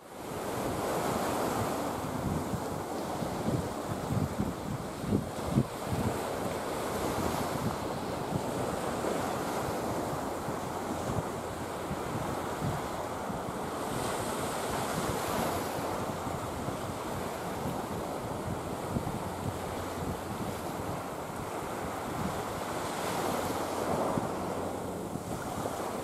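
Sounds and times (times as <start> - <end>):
small waves washing ashore: 0.0 - 26.0
wind on microphone: 0.1 - 26.0.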